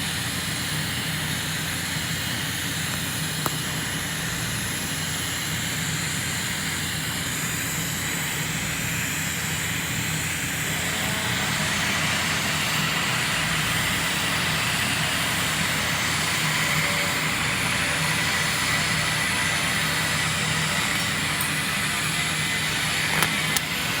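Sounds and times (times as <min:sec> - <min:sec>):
welding noise with high tone: 0:00.0 - 0:24.0.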